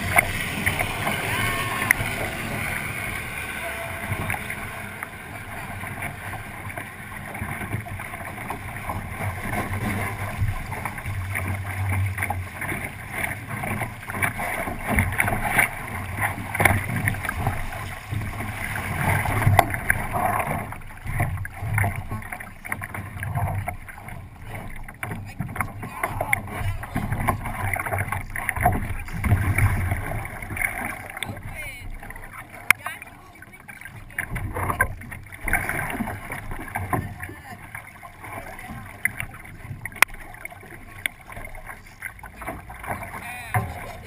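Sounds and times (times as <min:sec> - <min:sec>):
water slapping against hull: 0:00.0 - 0:44.0.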